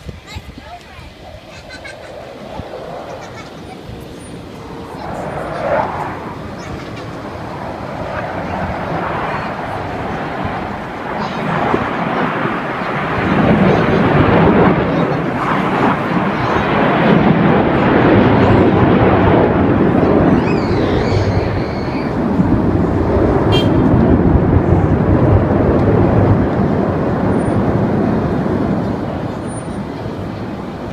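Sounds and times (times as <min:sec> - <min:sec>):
aircraft engine roar: 0:00.0 - 0:30.9.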